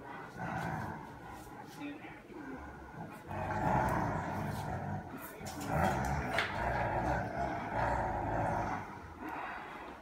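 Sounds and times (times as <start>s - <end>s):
dogs play-growling: 0.0s - 1.8s, 2.4s - 10.0s.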